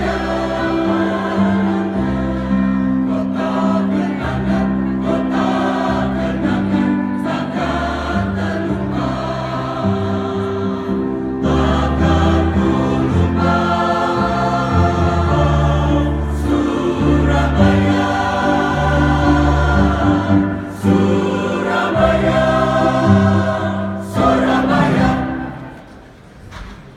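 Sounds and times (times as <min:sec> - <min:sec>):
group of voices singing: 0:00.0 - 0:26.1.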